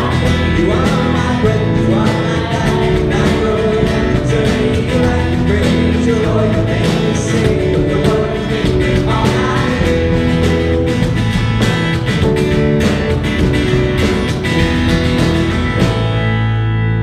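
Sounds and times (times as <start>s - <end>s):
keyboard chords: 0.0s - 17.0s
strummed guitars: 0.0s - 17.0s.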